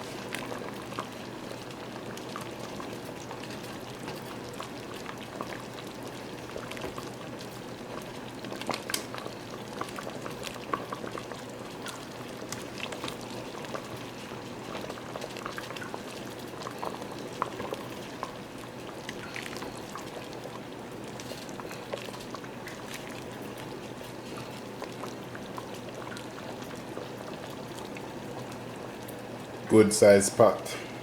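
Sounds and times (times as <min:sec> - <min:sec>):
soup bubbling and popping: 0:00.0 - 0:29.8.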